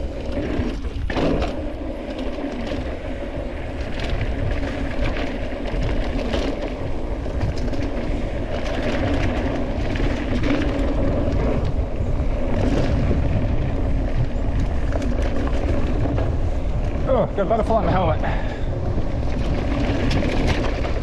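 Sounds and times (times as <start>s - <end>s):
tyres rumbling over rough trail: 0.0s - 21.0s
wind on microphone: 0.0s - 21.0s.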